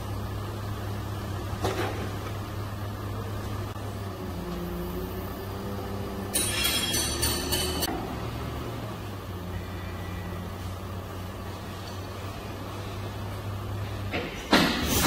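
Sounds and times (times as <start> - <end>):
truck engine humming: 0.0 - 14.5.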